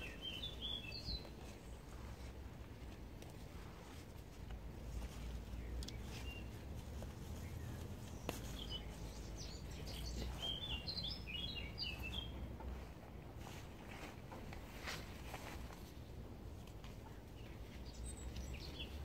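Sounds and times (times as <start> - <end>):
small birds chirping: 0.0 - 13.7, 14.5 - 19.0.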